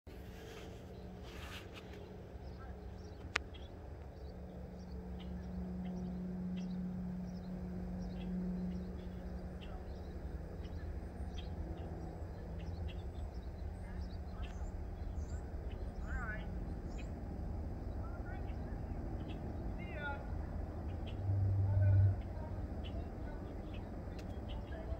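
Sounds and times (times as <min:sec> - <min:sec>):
low rumble and hum: 0:00.1 - 0:24.9
small birds chirping: 0:00.3 - 0:24.9.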